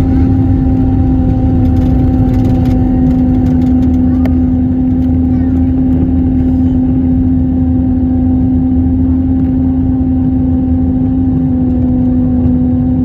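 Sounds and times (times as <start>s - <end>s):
jet engines rumbling: 0.0s - 11.7s
loud steady low-pitched hum: 0.0s - 13.0s.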